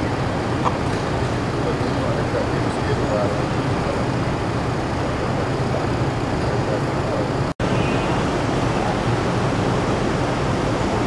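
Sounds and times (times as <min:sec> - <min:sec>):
city street traffic noise: 0:00.0 - 0:11.0.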